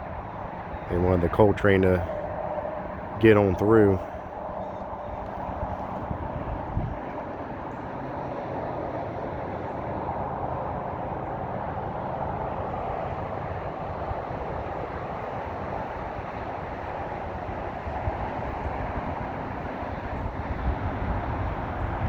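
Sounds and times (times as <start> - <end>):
diesel locomotives rumbling: 0.0 - 22.0.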